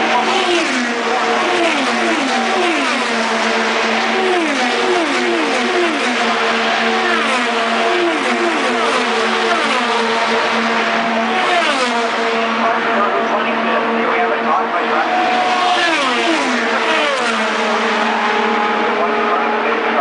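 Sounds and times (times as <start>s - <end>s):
race cars passing at speed: 0.0s - 20.0s
steady engine drone: 0.0s - 20.0s.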